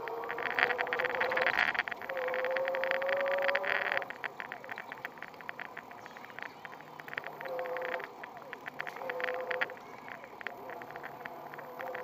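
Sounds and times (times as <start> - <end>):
dense rattle: 0.0 - 12.0
electric motor whining: 0.0 - 12.0.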